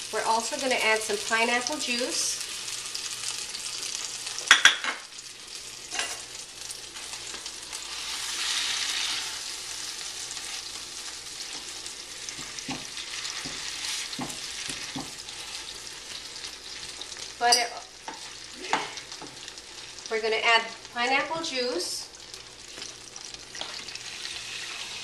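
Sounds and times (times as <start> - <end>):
butter sizzling in a skillet: 0.0 - 25.0.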